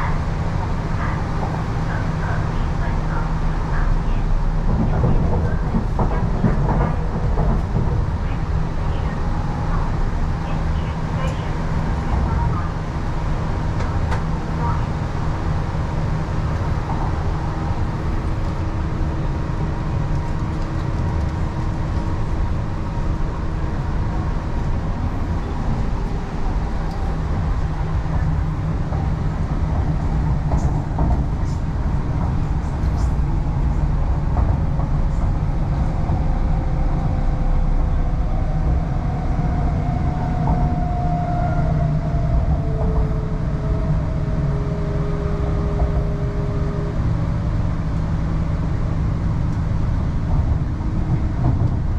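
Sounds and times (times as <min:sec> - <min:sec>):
train wheels rumbling on track: 0:00.0 - 0:51.9.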